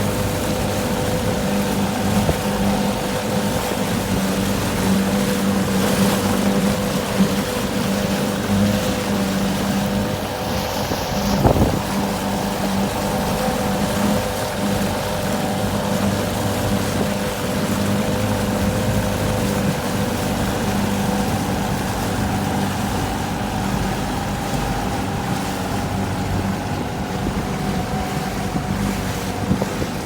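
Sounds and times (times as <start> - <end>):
outboard motor purring: 0.0 - 30.0.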